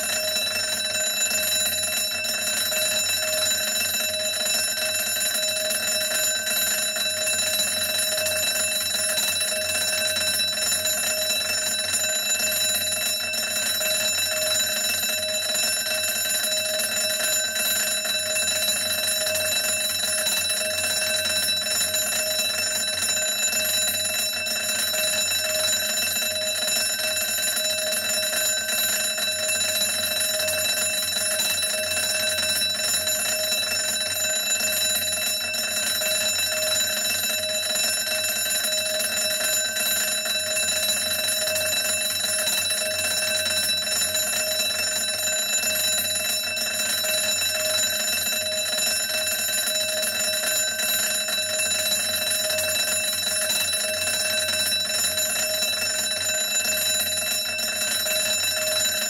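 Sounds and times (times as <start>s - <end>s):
electric alarm bell ringing: 0.0s - 59.0s.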